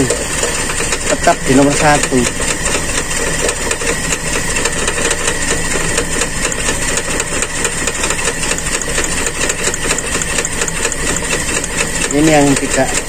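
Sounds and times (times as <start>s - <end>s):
car engine idling rough: 0.0s - 13.0s
fast even ticking: 0.0s - 13.0s.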